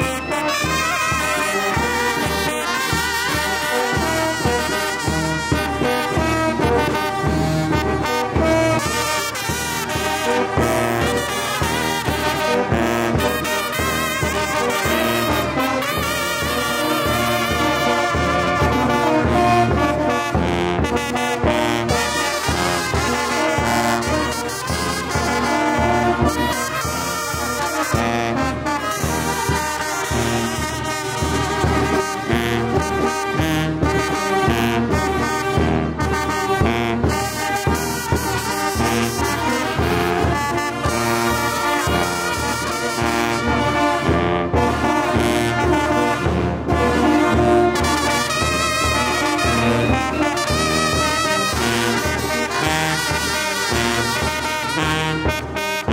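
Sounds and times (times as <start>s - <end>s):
brass band playing: 0.0s - 55.9s.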